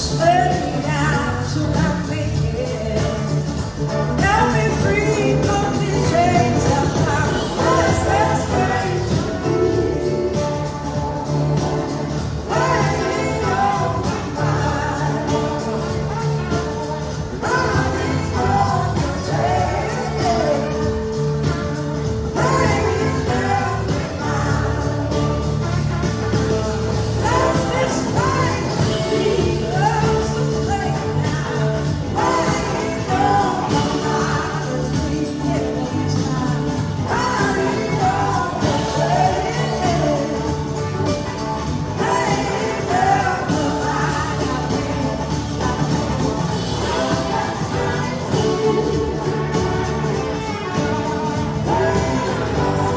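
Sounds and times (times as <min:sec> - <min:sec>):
person singing: 0:00.0 - 0:52.9
rock band playing: 0:00.0 - 0:52.9.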